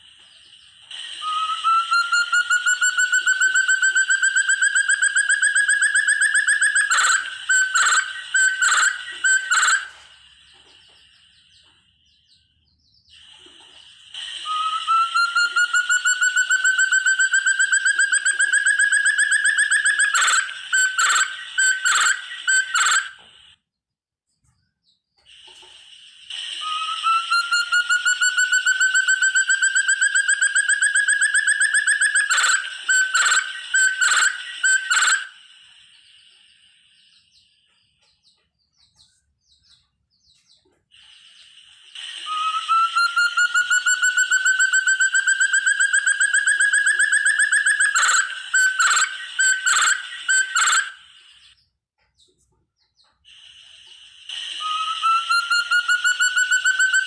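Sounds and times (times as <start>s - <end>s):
partridge call whistled trill: 0.0s - 23.6s, 25.3s - 38.2s, 38.8s - 51.6s, 53.0s - 57.0s.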